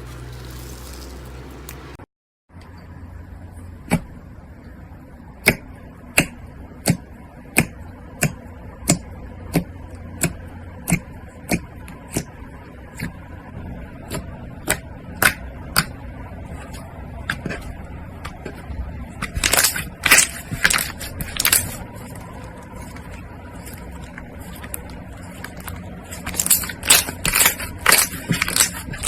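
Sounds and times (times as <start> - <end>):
steady low hum: 2.6 - 29.0.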